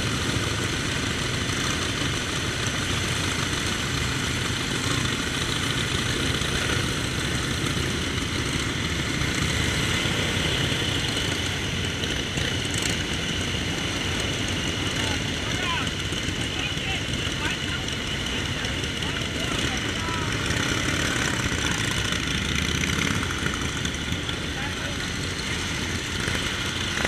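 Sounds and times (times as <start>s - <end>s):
motorcycle engines idling: 0.0s - 27.0s.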